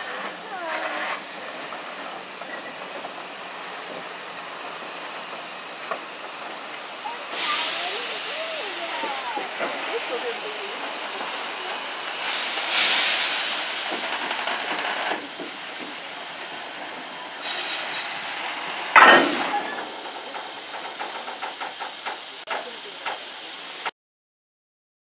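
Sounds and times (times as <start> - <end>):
locomotive chuffing beats: 0.0 - 23.9
steam locomotive releasing steam: 0.0 - 23.9.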